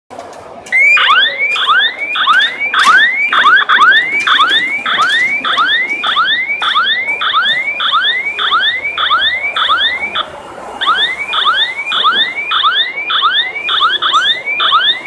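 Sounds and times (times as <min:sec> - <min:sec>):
steady high tone: 0:00.8 - 0:15.0.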